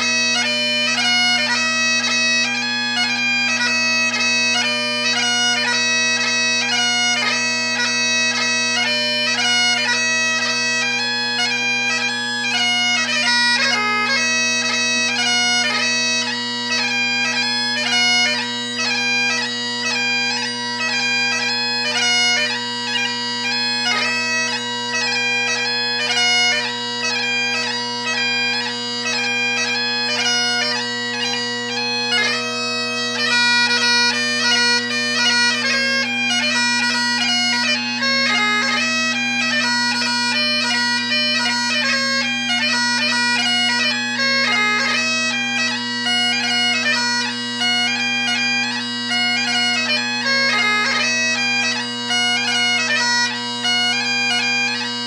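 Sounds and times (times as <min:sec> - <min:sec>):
bagpipe chanter melody: 0:00.0 - 0:55.0
bagpipe drones: 0:00.0 - 0:55.0.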